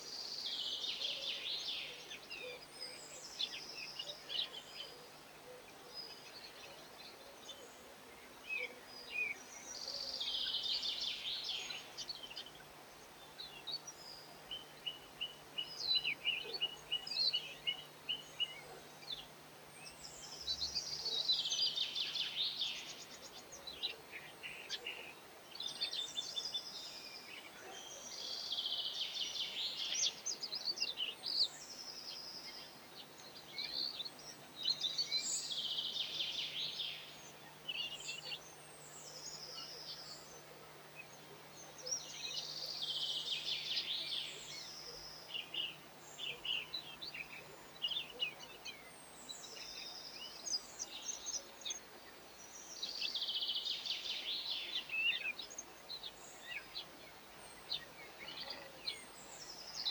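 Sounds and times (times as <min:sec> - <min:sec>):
songbirds twittering: 0:00.0 - 0:59.9.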